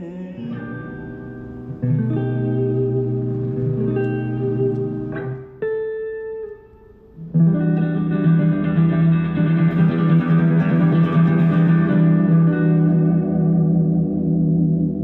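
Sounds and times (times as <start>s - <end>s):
strummed guitar chord ringing: 0.4s - 15.0s.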